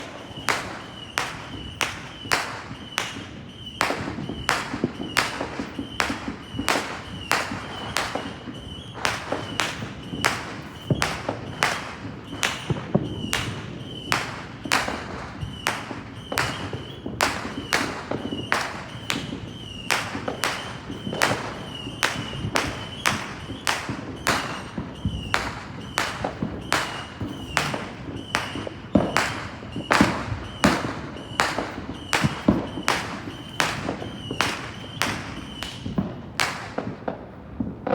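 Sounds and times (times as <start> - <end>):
fireworks bangs: 0.0 - 37.9.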